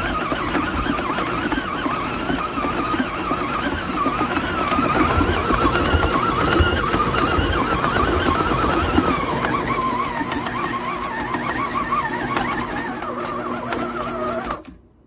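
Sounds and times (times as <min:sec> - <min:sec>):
low knocking of shaking mixer: 0:00.0 - 0:14.7
electric stand mixer running: 0:00.0 - 0:14.8.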